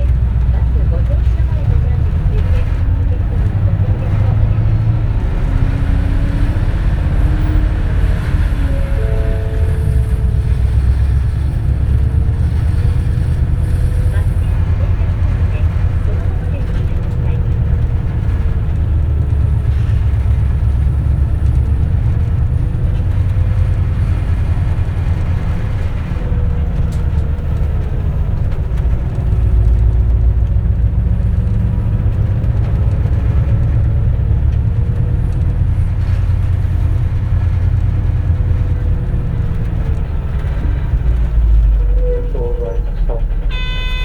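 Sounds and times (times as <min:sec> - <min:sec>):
bus engine and road rumble: 0:00.0 - 0:44.0
faint engine whine: 0:00.0 - 0:44.0.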